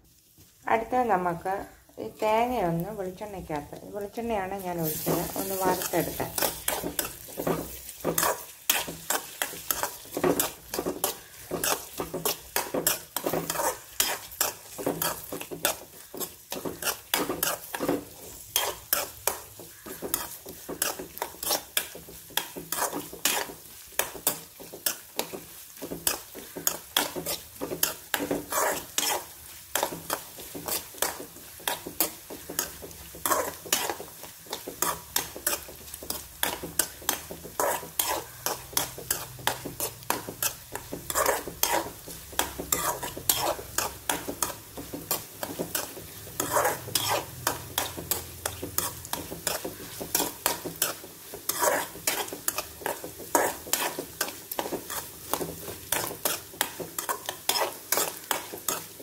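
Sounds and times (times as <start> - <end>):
coconut sizzling in oil: 0.0 - 59.0
metal spoon scraping pan: 2.2 - 59.0.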